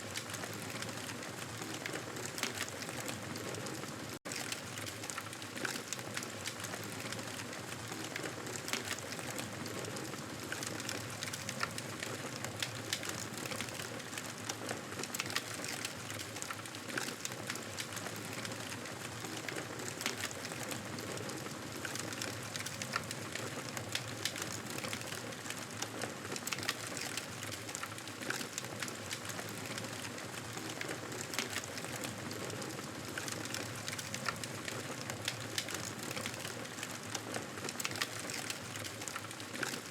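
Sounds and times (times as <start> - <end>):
campfire crackling: 0.1 - 39.9.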